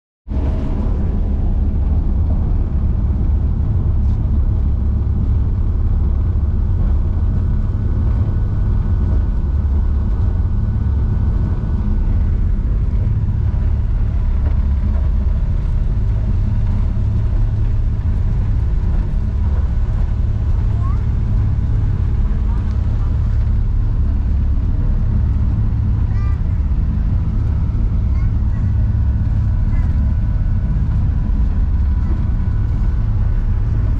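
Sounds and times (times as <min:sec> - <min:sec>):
faint steady whine: 0:00.3 - 0:33.9
ferry engines deep rumble: 0:00.3 - 0:33.9.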